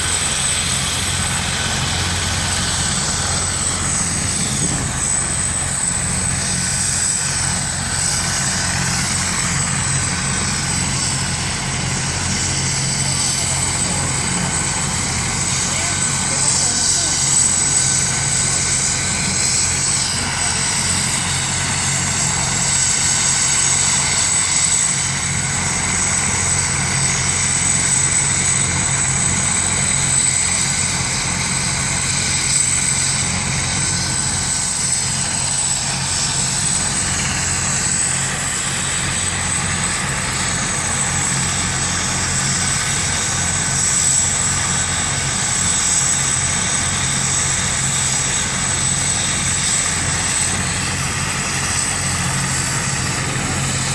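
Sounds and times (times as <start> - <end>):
helicopter rotor beat: 0.0 - 53.9
helicopter turbine whine: 0.0 - 53.9.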